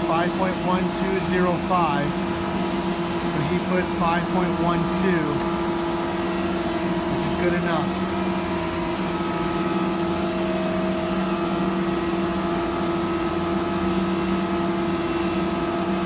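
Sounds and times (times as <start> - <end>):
shop machinery humming: 0.0 - 16.0.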